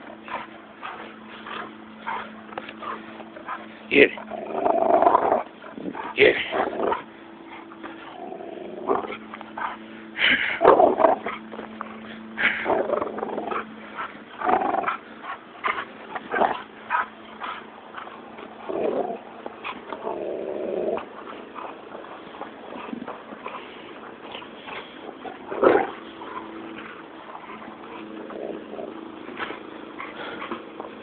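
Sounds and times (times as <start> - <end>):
dog growling: 0.0 - 31.0.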